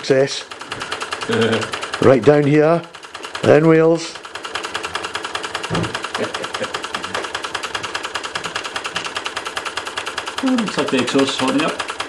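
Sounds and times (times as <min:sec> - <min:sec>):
toy steam engine chuffing: 0:00.0 - 0:12.0.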